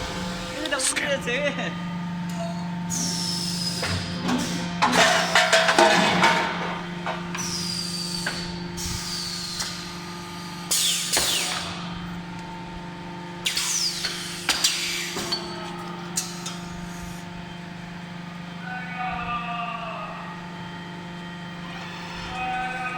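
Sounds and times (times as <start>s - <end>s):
machine hum: 0.0s - 22.9s.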